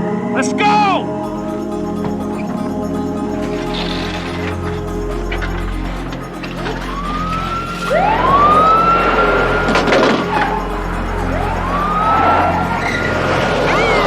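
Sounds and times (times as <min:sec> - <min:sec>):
film score music: 0:00.0 - 0:14.0
police sirens wailing: 0:00.1 - 0:14.0.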